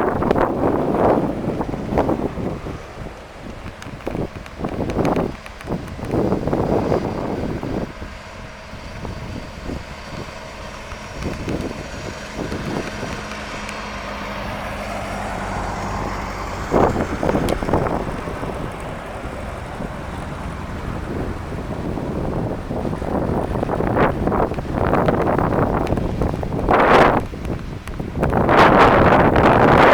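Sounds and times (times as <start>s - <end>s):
tractor engine running: 0.0s - 29.9s
wind buffeting microphone: 0.0s - 29.9s.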